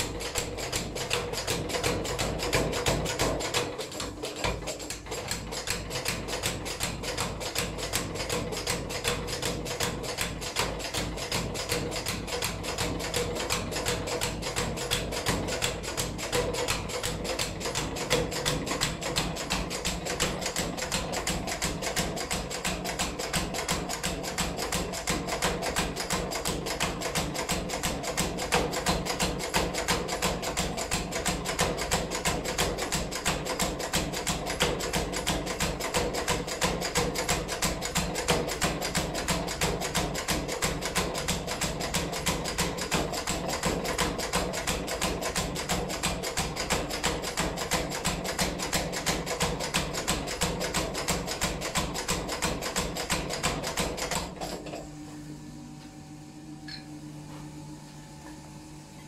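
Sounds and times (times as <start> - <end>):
power hammer pounding iron: 0.0 - 54.5.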